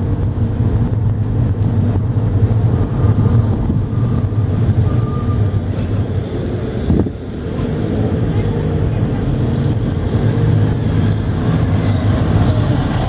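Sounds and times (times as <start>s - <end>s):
diesel engine running: 0.0s - 13.0s
tyre road noise: 0.0s - 13.0s.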